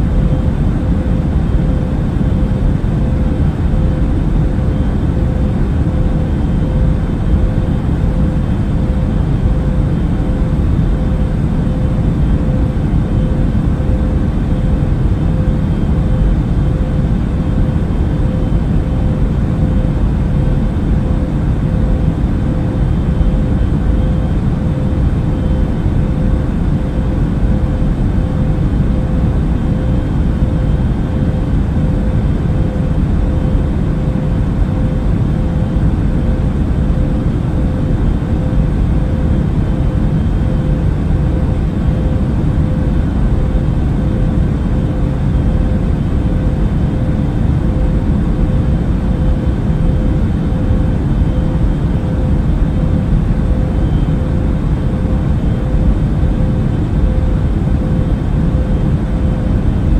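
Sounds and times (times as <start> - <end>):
faint steady hum: 0.0 - 59.9
low rumble of engines and air: 0.0 - 59.9.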